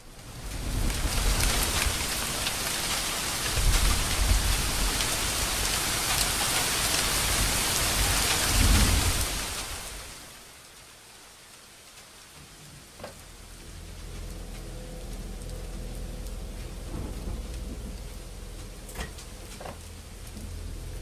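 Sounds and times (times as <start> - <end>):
heavy rain: 0.0 - 21.0
thunder rolling: 0.4 - 9.8, 13.4 - 21.0.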